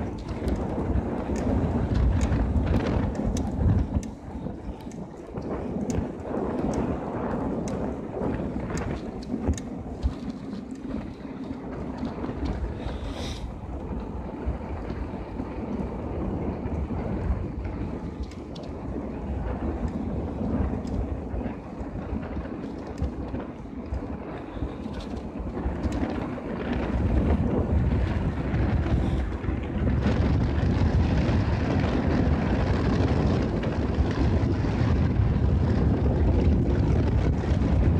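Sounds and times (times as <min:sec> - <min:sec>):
bike clicks and rattles: 0:00.0 - 0:37.9
tyres rolling on asphalt: 0:00.0 - 0:37.9
wind buffeting microphone: 0:00.0 - 0:37.9.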